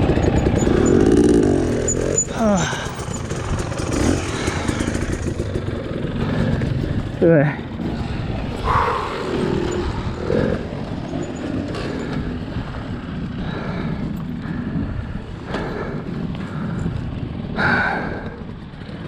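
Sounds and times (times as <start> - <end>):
two-stroke dirt bike engines: 0.0 - 19.0.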